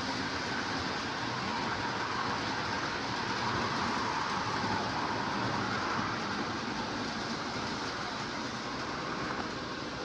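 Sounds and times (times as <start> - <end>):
wheels rolling on rails: 0.0 - 10.0.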